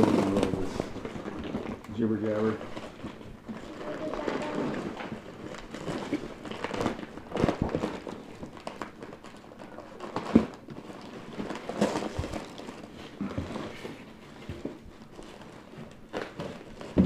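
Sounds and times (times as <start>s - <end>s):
wrapping rustling and crinkling: 0.0s - 17.0s.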